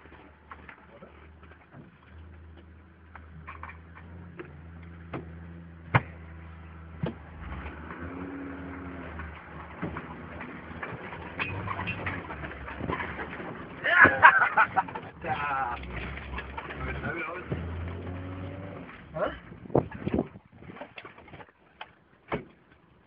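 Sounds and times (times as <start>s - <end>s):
car body knocks and rattles: 0.0s - 23.0s.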